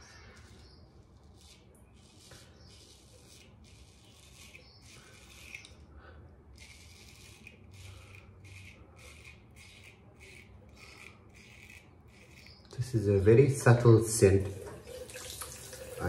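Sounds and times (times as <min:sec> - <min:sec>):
razor scraping stubble: 0:00.0 - 0:16.0.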